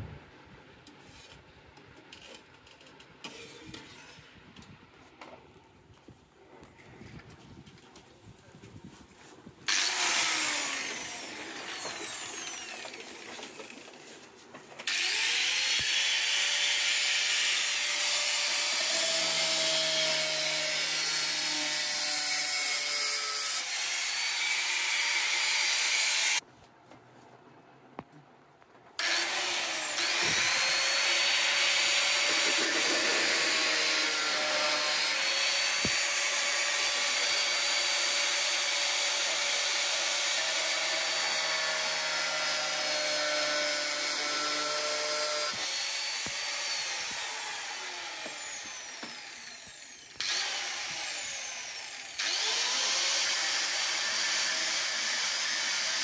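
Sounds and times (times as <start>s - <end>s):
angle grinder whining and grinding: 8.6s - 26.4s, 29.0s - 56.0s.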